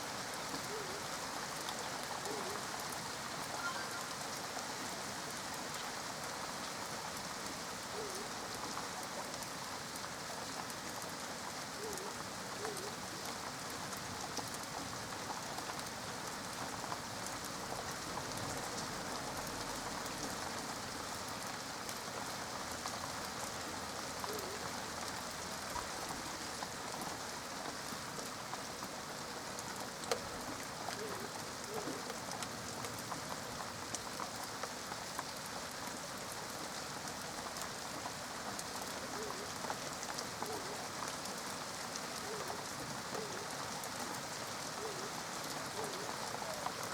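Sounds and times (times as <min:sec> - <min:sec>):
rain drops pattering: 0:00.0 - 0:46.9.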